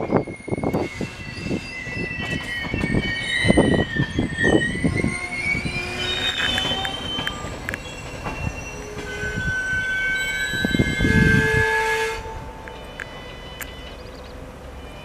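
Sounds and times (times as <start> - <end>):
train wheels squealing: 0.0 - 15.0.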